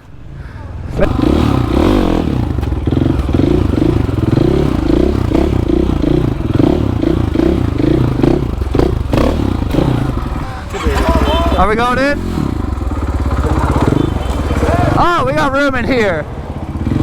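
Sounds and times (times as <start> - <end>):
motorcycle engine revving: 1.0 - 17.0.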